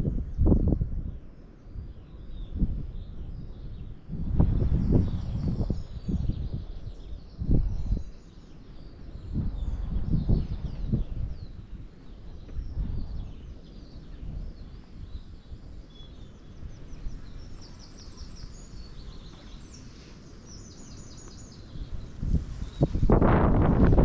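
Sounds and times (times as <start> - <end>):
small songbirds chirping: 0.0 - 24.0.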